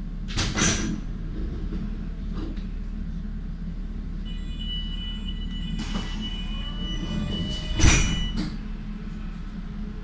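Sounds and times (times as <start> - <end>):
metro car equipment humming: 0.0 - 10.0.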